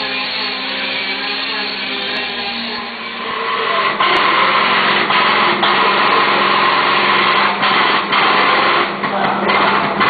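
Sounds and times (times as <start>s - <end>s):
motor-driven machine humming: 0.0s - 10.0s.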